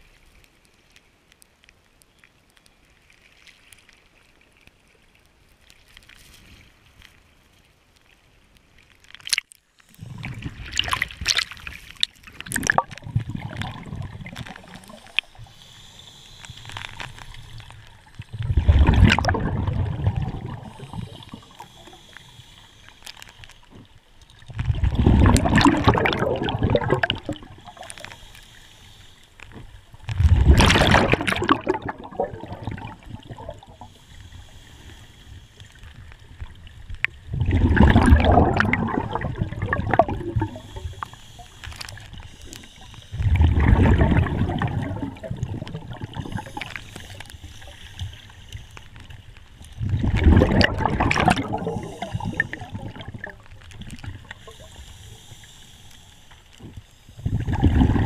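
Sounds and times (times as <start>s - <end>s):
scuba diver breathing bubbles: 9.9s - 58.0s.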